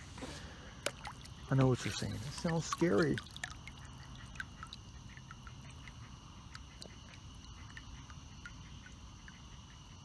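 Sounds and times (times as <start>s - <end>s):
crickets trilling: 0.0s - 10.0s
tree frogs chirping: 0.5s - 10.0s.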